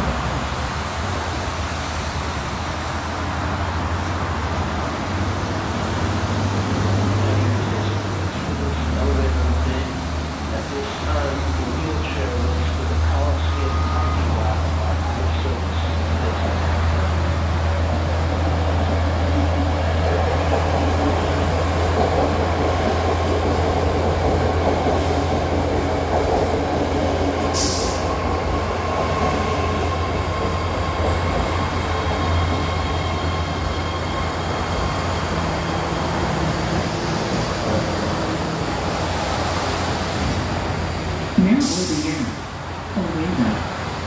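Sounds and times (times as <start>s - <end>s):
train rumbling to a stop: 0.0s - 44.0s.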